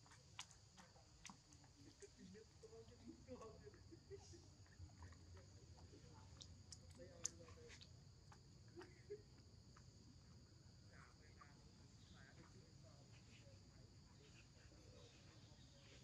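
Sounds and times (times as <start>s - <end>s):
faint insect chirring: 0.0s - 16.0s.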